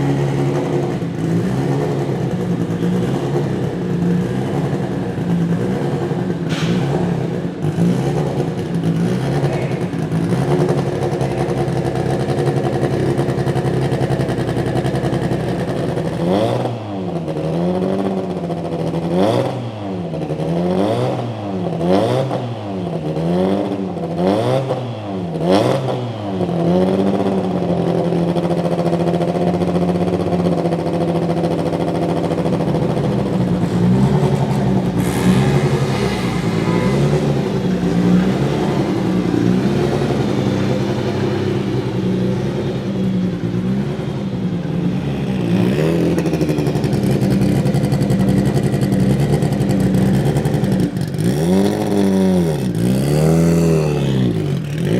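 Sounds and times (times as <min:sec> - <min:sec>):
race car engine idling and revving: 0:00.0 - 0:54.9.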